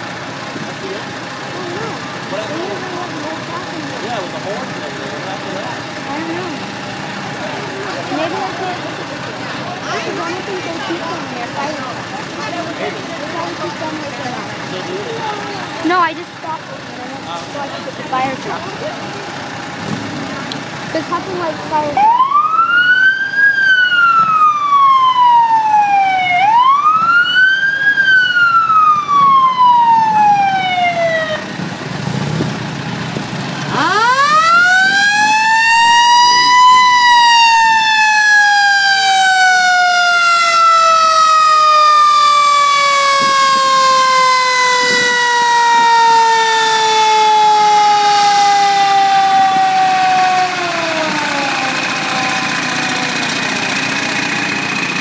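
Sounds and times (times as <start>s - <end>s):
fire engine siren wailing: 0.0s - 20.0s, 20.9s - 55.0s.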